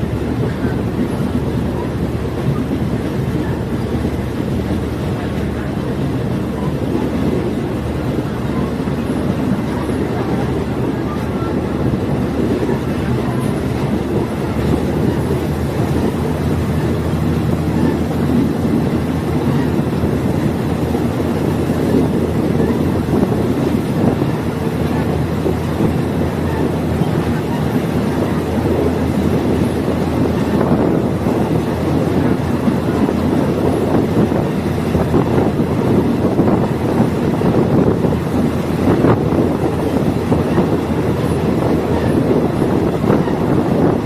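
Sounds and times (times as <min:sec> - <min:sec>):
diesel train engine droning: 0:00.0 - 0:44.0
train wheels rumbling on track: 0:00.0 - 0:44.0.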